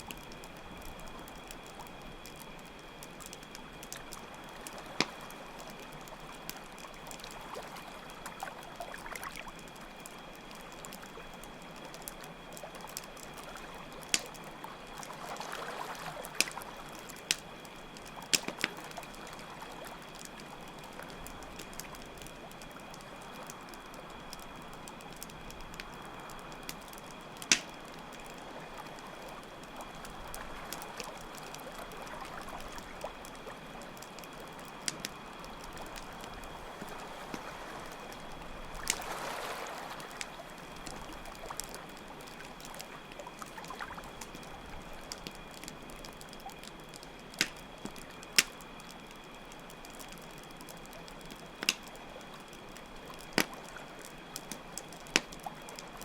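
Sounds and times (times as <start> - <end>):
campfire pops and crackles: 0.0 - 56.0
crickets trilling: 0.0 - 56.0
trickling water: 0.0 - 56.0.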